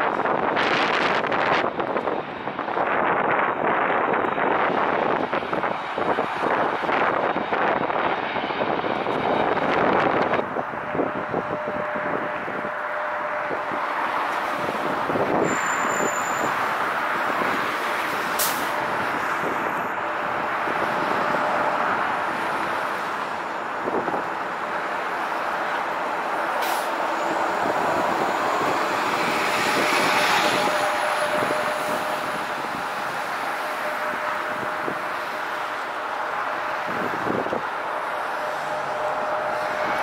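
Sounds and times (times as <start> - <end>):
jet engines rushing: 0.0 - 40.0.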